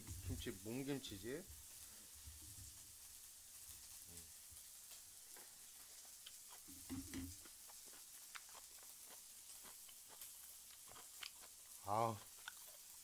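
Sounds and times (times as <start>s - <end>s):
meat sizzling on a grill pan: 0.0s - 13.0s.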